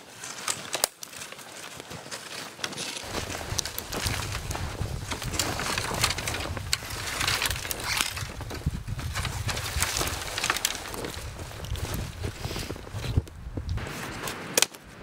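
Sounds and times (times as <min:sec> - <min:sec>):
dry branches rustling and crackling: 0:00.0 - 0:15.0
footsteps crunching in snow: 0:00.0 - 0:15.0.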